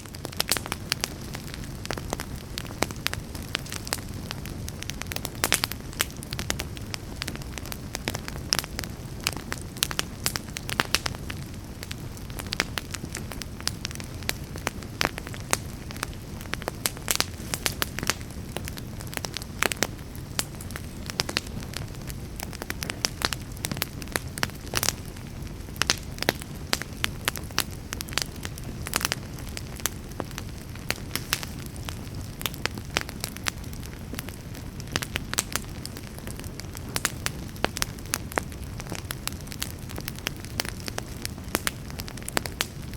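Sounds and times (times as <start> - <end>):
burning wood crackling and popping: 0.0 - 42.9
campfire low rumble: 0.0 - 42.9.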